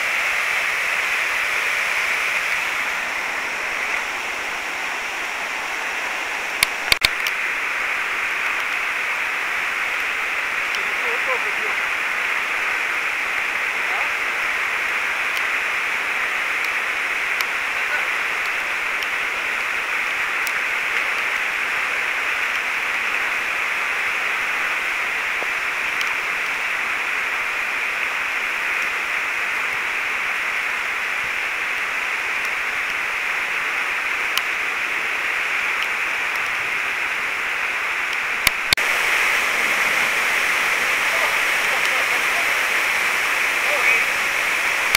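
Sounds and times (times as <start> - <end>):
river running fast: 0.0 - 44.9
waterfall rushing: 0.0 - 44.9.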